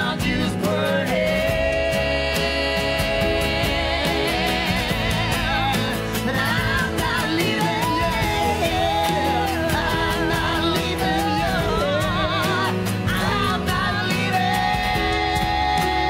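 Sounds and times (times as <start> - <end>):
live band playing ballad: 0.0 - 16.0
woman singing with vibrato: 0.0 - 16.0.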